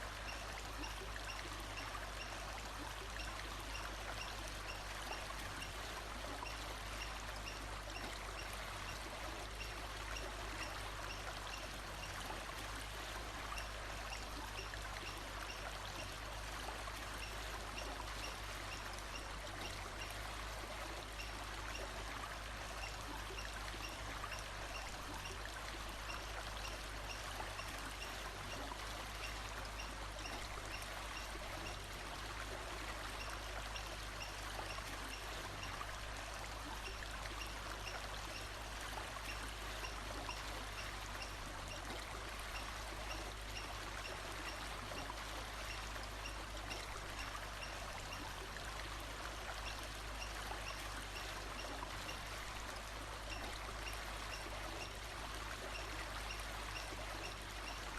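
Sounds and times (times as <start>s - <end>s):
flowing water rushing: 0.0s - 57.9s.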